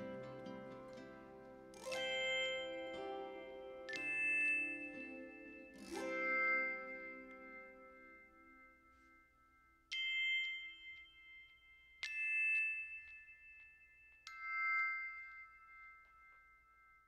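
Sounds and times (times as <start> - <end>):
light tinkles: 0.0 - 17.0
ringing chime notes: 0.0 - 17.0.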